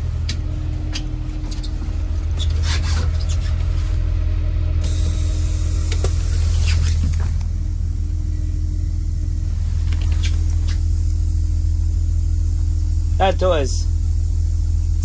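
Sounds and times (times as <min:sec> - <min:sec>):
school bus diesel engine idling: 0:00.0 - 0:15.0.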